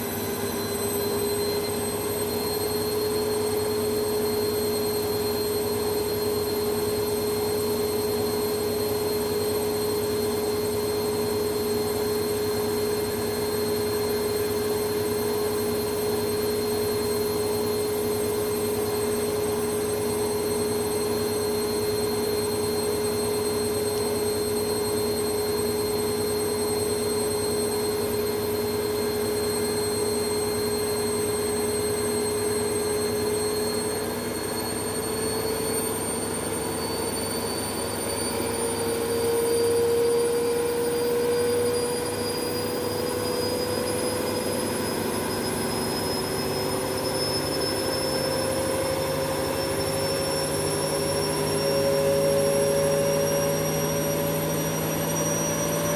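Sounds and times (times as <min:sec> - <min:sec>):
motor whine: 0:00.0 - 0:55.9.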